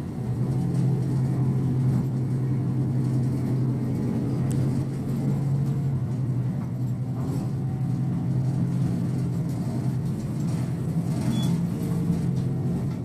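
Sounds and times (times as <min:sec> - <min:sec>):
bus diesel engine droning: 0:00.0 - 0:13.0
road noise in cabin: 0:00.0 - 0:13.0.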